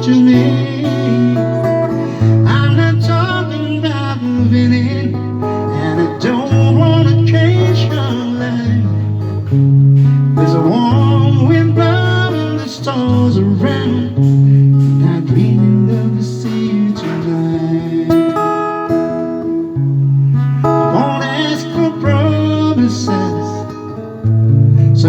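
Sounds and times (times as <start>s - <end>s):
soft rock guitar instrumental: 0.0s - 25.0s.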